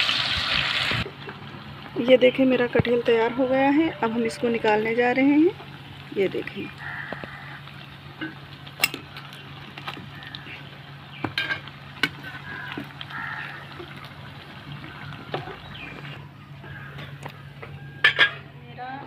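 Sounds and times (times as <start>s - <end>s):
food deep-frying in oil: 0.0s - 18.1s.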